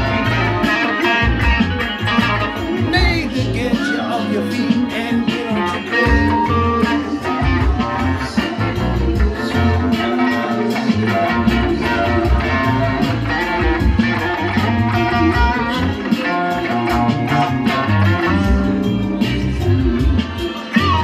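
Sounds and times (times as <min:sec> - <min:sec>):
backing track with bass and drums: 0:00.0 - 0:21.0
electric guitar playing a groove: 0:00.0 - 0:21.0.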